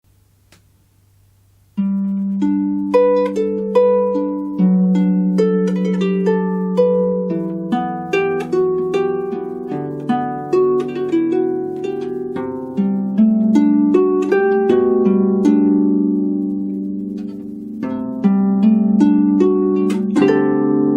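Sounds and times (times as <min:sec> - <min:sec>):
solo harp playing: 0:01.8 - 0:20.9.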